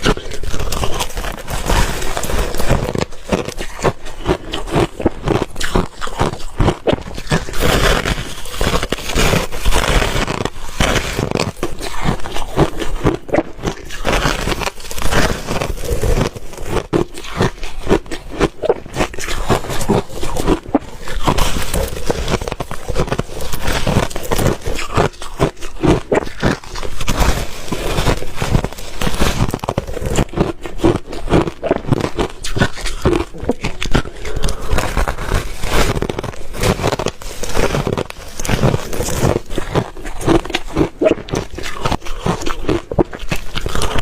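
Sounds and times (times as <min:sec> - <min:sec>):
ice being chewed: 0:00.0 - 0:44.0.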